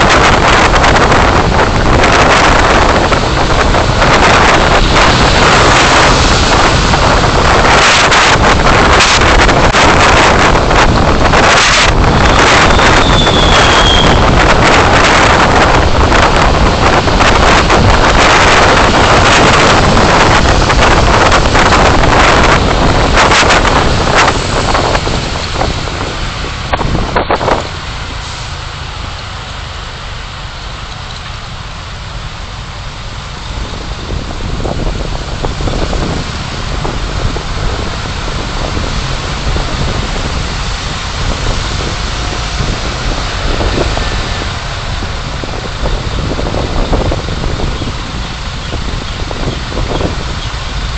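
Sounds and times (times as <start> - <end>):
road and wind noise from car: 0.0 - 50.9.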